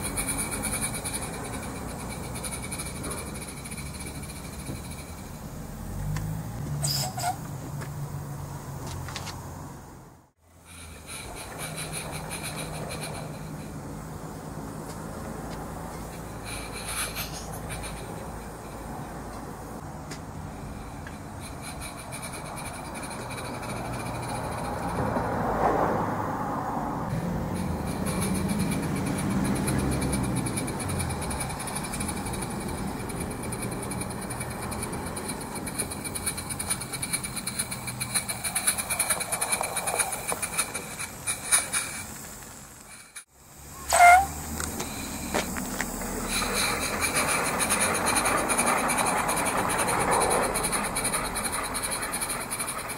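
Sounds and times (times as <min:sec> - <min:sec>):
steady low hum: 0:00.0 - 0:06.6, 0:09.5 - 0:25.8, 0:27.0 - 0:52.9
steam locomotive chuffs: 0:00.0 - 0:08.7, 0:10.5 - 0:26.5, 0:27.1 - 0:52.9.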